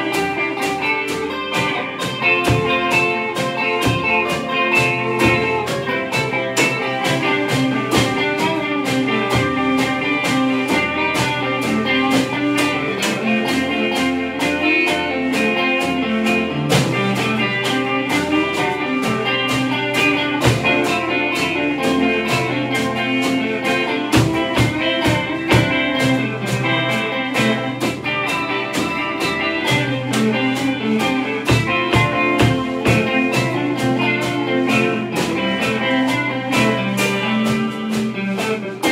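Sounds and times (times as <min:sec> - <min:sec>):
drum kit steady beat: 0:00.0 - 0:38.9
electric guitars playing: 0:00.0 - 0:38.9.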